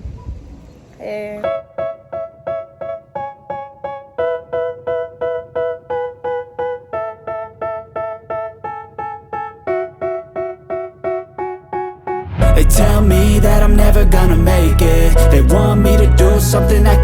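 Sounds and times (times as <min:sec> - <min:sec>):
electric piano repeated chords: 0:01.4 - 0:17.0.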